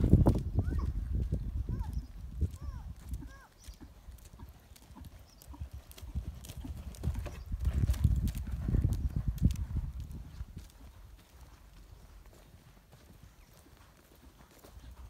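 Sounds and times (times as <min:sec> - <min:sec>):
hoofbeats on gravel: 0:00.0 - 0:15.0.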